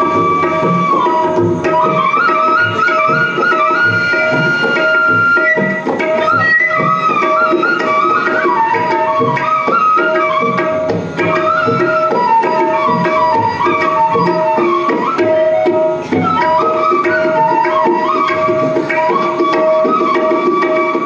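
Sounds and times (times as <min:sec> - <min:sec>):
flute melody: 0:00.0 - 0:21.0
tabla drumming: 0:00.0 - 0:21.0.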